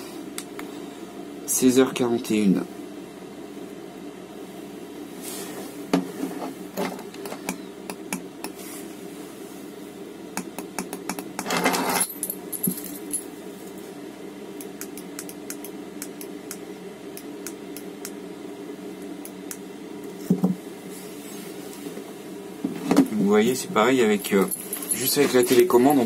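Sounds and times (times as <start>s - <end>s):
air heater humming: 0.0s - 26.0s.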